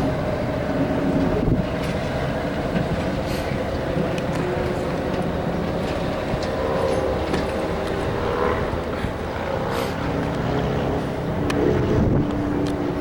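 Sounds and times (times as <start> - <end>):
train locomotive rumbling: 0.0 - 13.0.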